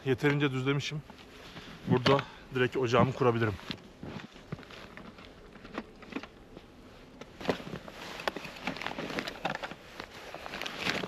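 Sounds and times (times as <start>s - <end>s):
camping gear handling clicks and rustles: 0.0s - 11.0s.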